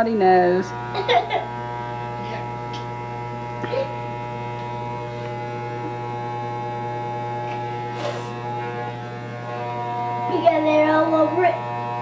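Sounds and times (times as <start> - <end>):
hair clippers buzzing: 0.0 - 12.0.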